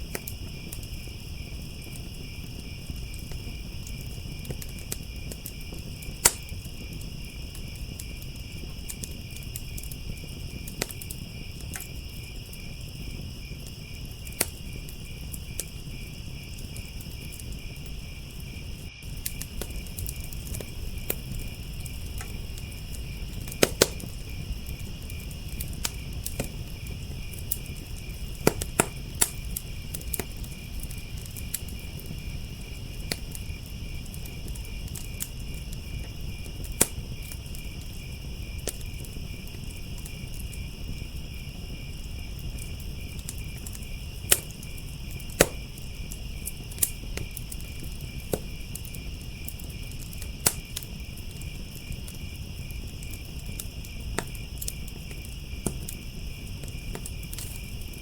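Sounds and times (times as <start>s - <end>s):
crickets chirping: 0.0s - 58.0s
low rumble of flame: 0.0s - 58.0s
wood fire crackling and popping: 0.0s - 58.0s.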